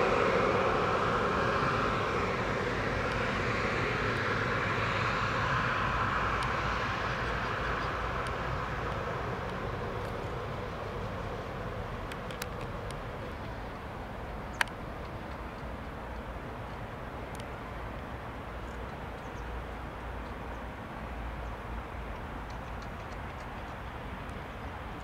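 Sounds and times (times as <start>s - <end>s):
jet engine whine and rumble: 0.0s - 25.0s.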